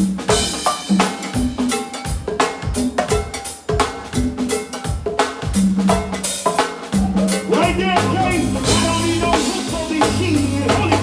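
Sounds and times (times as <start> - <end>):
live band instrumental groove: 0.0 - 11.0.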